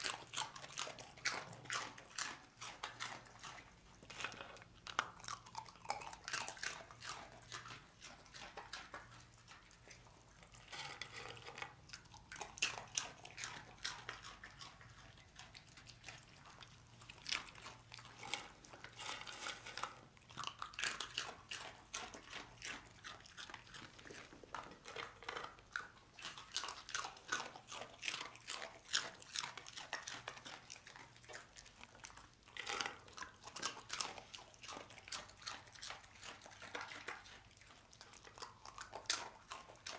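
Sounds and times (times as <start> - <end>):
dog crunching dry snacks: 0.0 - 39.9.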